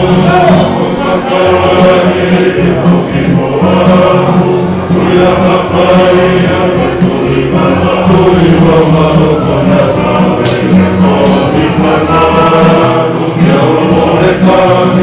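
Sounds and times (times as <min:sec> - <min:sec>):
men singing in harmony: 0:00.0 - 0:15.0.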